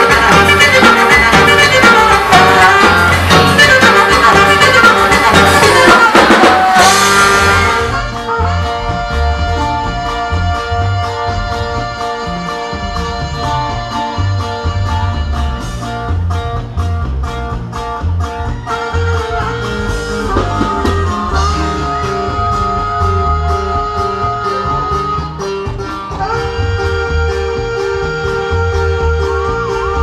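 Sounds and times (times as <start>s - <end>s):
saxophone holding long notes: 0.0s - 16.1s, 18.6s - 30.0s
electric bass: 0.0s - 30.0s
steady drum beat: 0.0s - 30.0s.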